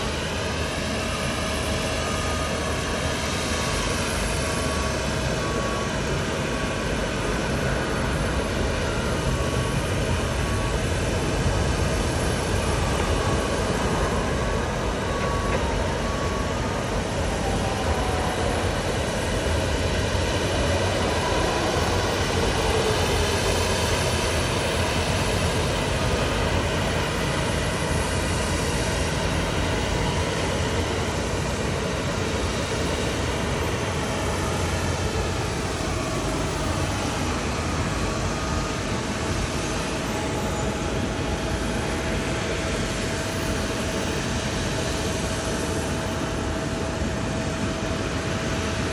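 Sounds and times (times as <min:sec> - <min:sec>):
jet airliner passing: 0:00.0 - 0:48.9.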